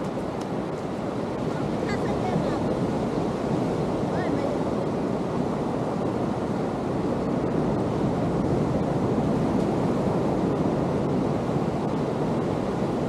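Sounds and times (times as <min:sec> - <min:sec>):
ocean surf on beach: 0:00.0 - 0:13.0
wind on microphone: 0:00.0 - 0:13.0.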